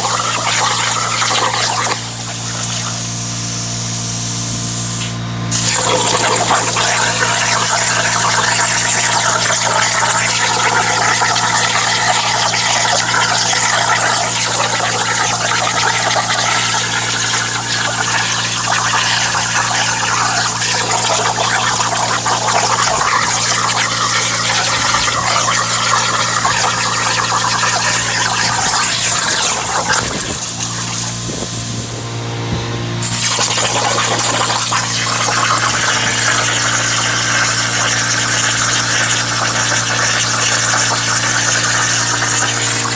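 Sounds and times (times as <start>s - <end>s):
plasma torch hissing: 0.0s - 32.1s, 33.0s - 42.9s
steady low hum: 0.0s - 42.9s.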